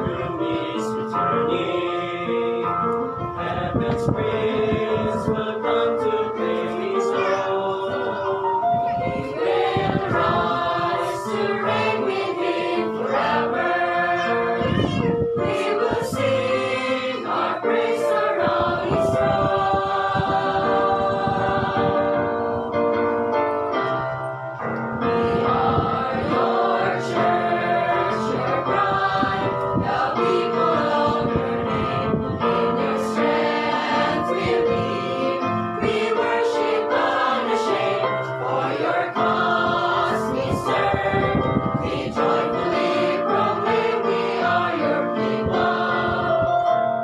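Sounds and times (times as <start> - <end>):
choir singing a hymn: 0.0 - 23.2, 24.7 - 47.0.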